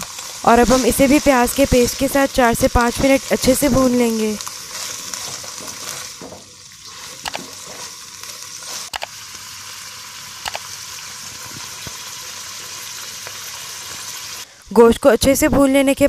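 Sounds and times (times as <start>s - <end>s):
meat sizzling in oil: 0.0s - 14.5s.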